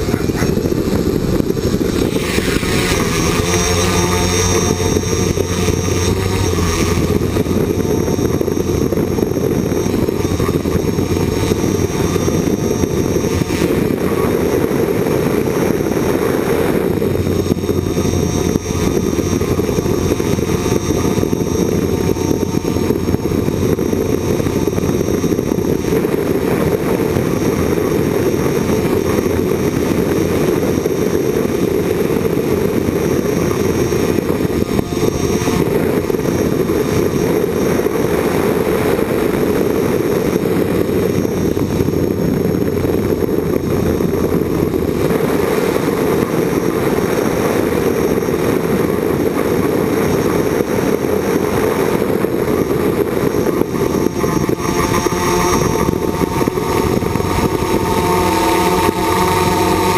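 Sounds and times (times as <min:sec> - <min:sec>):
drone motor whine: 0:00.0 - 0:59.9
drone propellers whirring: 0:00.0 - 0:59.9.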